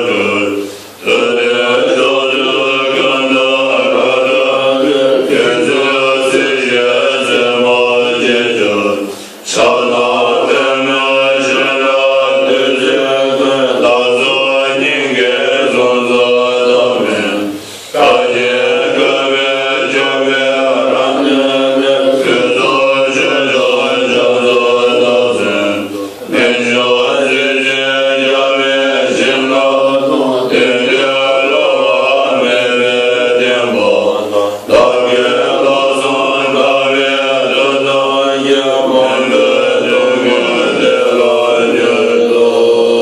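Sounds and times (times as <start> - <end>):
monks chanting in unison: 0.0 - 43.0.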